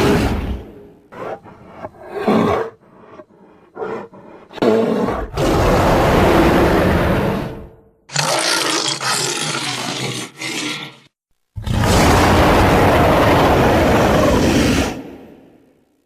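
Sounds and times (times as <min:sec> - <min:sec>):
gorilla roaring: 0:00.0 - 0:15.5.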